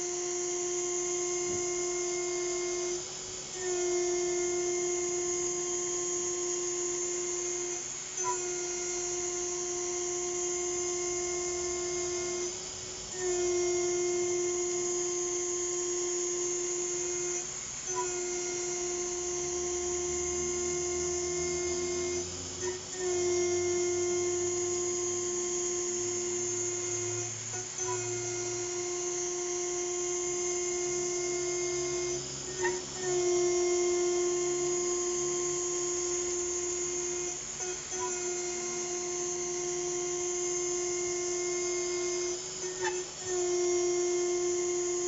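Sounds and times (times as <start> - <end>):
router spindle whine: 0.0 - 45.0.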